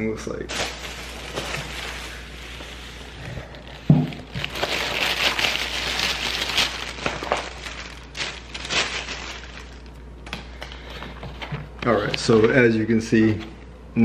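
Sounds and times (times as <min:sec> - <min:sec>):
plastic bag rustling and crinkling: 0:00.0 - 0:13.4.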